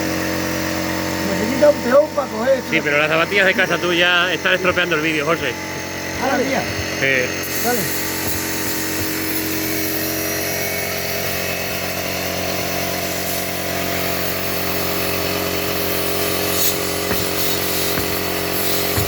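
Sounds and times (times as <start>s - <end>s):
motor humming: 3.2s - 19.0s.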